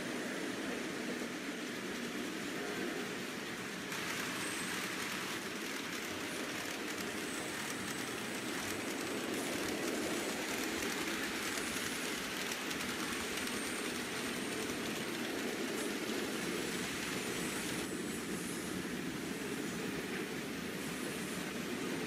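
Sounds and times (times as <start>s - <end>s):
model trains whirring rattle: 0.0s - 22.0s.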